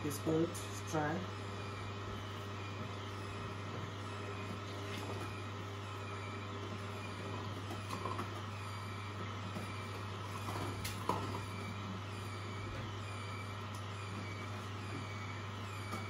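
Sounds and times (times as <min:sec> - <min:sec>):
juicer humming: 0:00.0 - 0:16.0.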